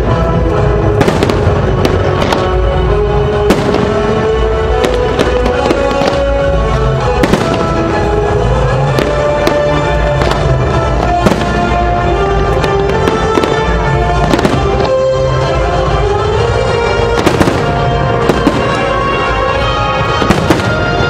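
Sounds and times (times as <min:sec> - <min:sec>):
fireworks bursting: 0:00.0 - 0:21.0
loud music: 0:00.0 - 0:21.0.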